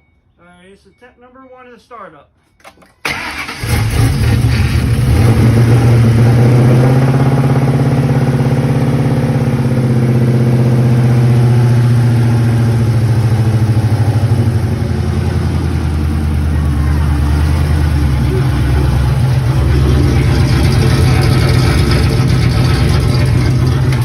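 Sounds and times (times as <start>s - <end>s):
car engine idling: 3.1s - 24.0s.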